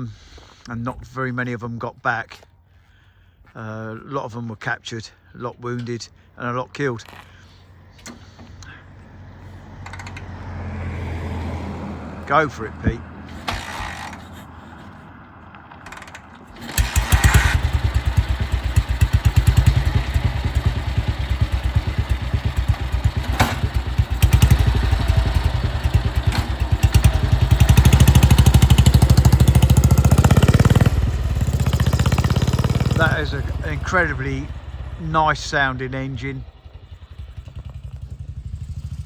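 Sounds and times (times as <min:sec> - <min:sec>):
motorcycle engine starting and running: 0:07.0 - 0:39.0.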